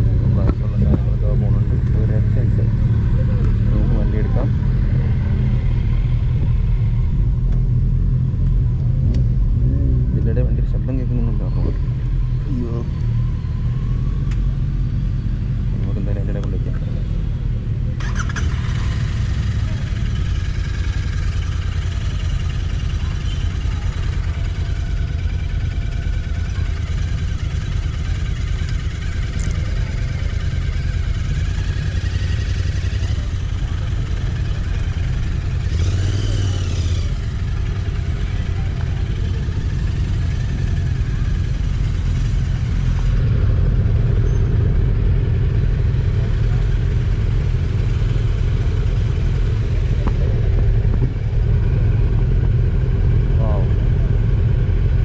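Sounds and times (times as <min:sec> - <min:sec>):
motorcycle engine revving: 0:00.0 - 0:55.0
motorcycle engines idling: 0:00.0 - 0:55.0.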